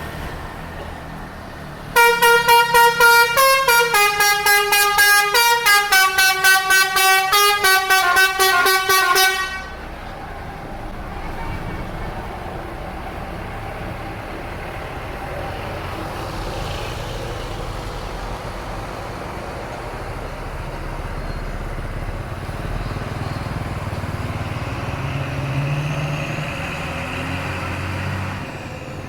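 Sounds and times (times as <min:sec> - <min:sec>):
bus engine running: 0:00.0 - 0:29.0
road traffic noise: 0:00.0 - 0:29.0.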